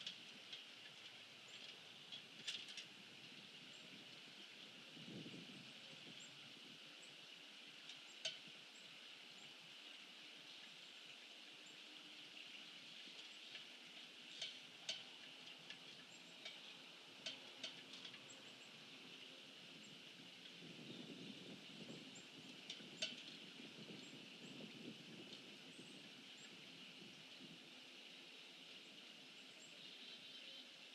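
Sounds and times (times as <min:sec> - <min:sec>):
steady high hiss: 0:00.0 - 0:30.9.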